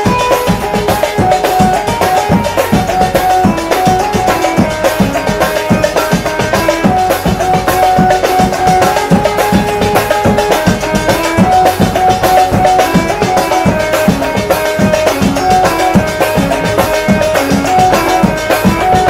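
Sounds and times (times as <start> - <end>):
drums playing fast beat: 0.0 - 19.0
melody of held notes: 0.0 - 19.0.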